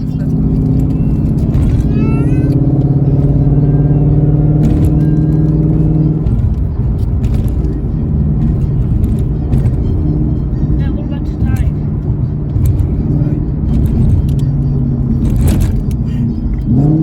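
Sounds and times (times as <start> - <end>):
car exhaust engine note: 0.0 - 17.0.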